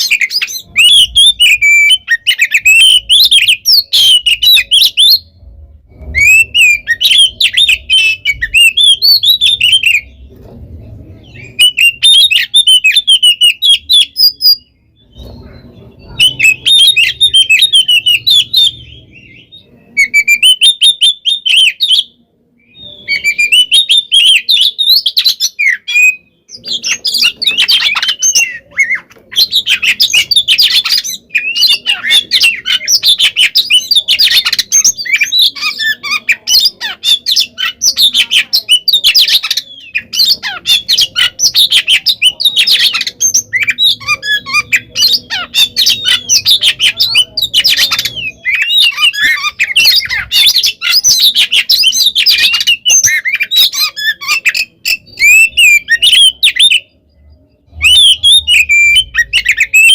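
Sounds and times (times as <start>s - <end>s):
magpie-robin singing chirps and whistles: 0.0s - 10.5s, 11.2s - 59.9s.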